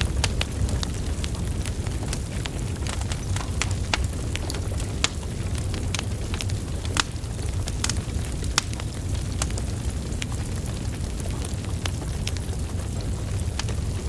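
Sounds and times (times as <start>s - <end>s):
fire flames rumbling: 0.0s - 14.0s
logs crackling and popping: 0.0s - 14.0s.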